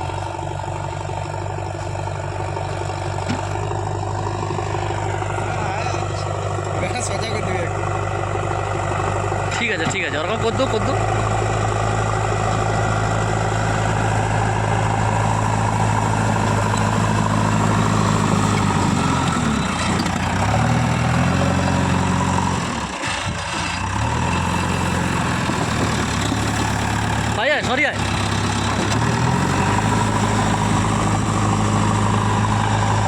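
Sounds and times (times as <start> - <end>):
backhoe diesel engine running: 0.0 - 33.0.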